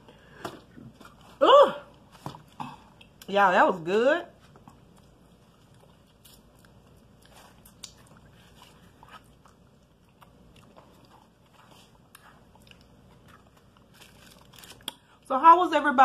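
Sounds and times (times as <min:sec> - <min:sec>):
faint chewing: 0:00.6 - 0:03.3, 0:04.4 - 0:15.2.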